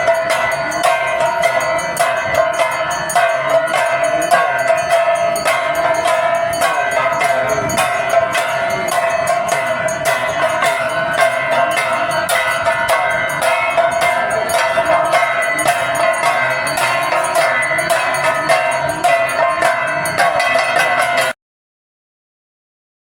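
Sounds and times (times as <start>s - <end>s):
bells ringing rapidly: 0.0s - 21.4s.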